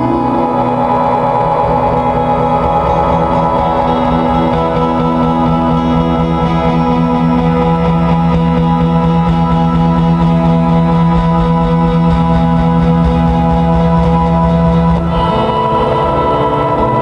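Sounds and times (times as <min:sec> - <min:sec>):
sustained electric guitar tones: 0:00.0 - 0:17.0.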